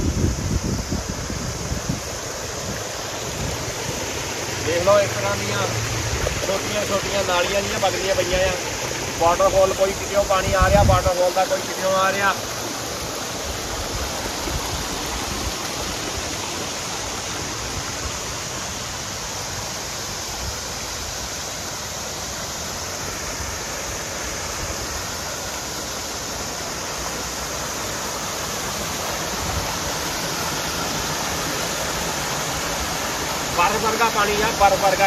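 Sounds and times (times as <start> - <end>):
mountain stream water rushing: 0.0 - 35.0.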